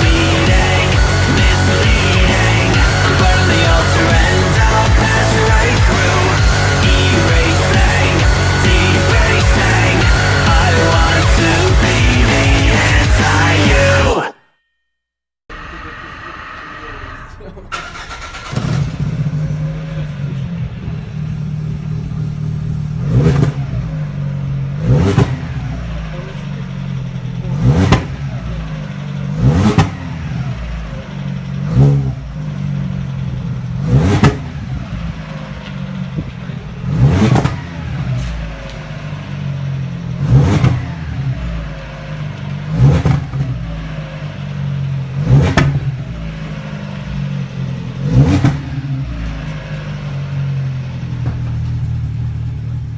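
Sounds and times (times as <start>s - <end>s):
car engine idling and revving: 0.0s - 14.2s, 15.5s - 52.9s.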